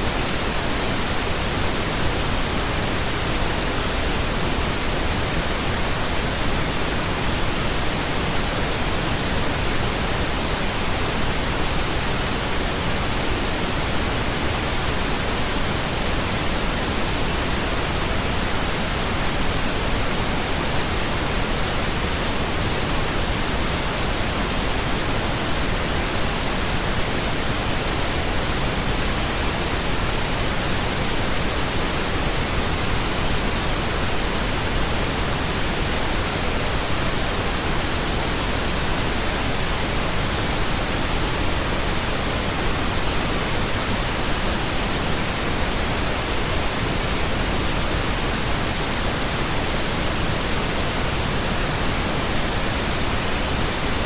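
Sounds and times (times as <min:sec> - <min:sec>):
steady pink noise: 0:00.0 - 0:54.0.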